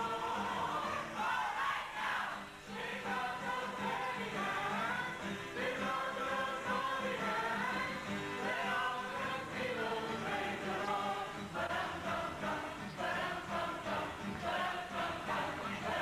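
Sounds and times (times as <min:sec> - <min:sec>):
group singing worship song: 0:00.0 - 0:16.0.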